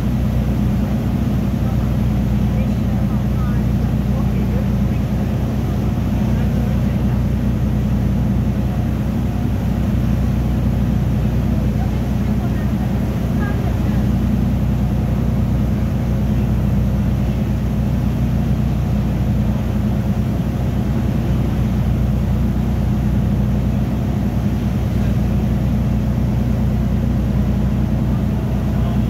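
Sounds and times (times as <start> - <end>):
boat engine drone: 0.0 - 29.0.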